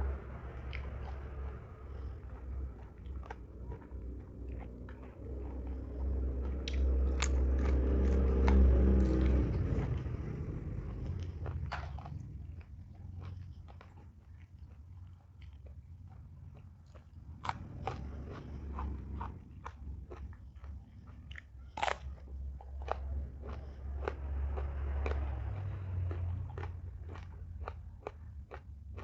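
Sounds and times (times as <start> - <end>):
person chewing crunchy food: 0.0 - 29.0
steady low hum: 0.0 - 29.0.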